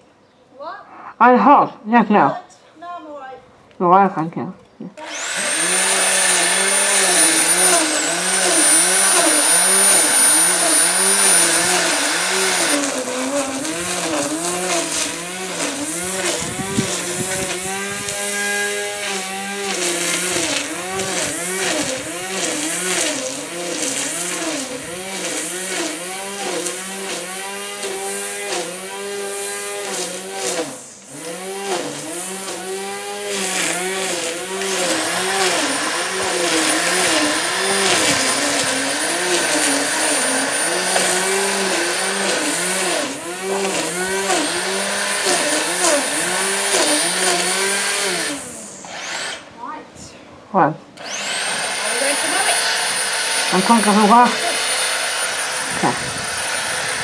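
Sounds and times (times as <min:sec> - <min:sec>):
electric grass trimmer running: 0:05.0 - 0:49.8, 0:50.9 - 0:57.0.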